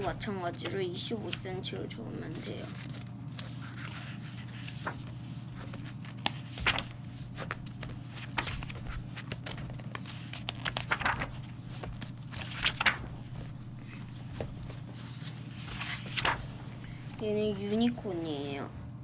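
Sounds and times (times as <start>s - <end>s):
book pages turning: 0.0s - 18.0s
low steady hum: 0.0s - 19.0s.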